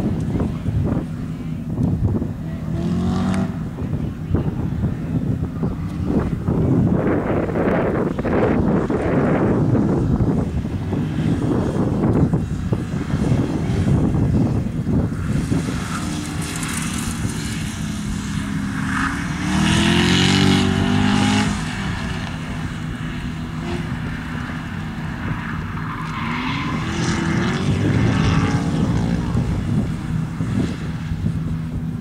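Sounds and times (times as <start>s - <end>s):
sports car engine accelerating: 0.0s - 32.0s.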